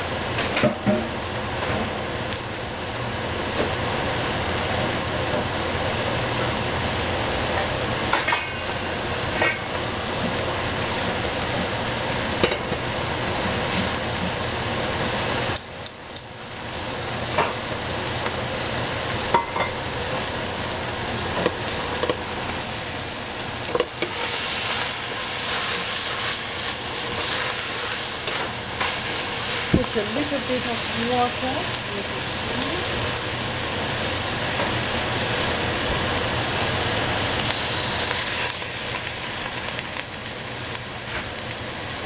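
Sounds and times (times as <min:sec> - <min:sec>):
vegetables sizzling in a frying pan: 0:00.0 - 0:42.0.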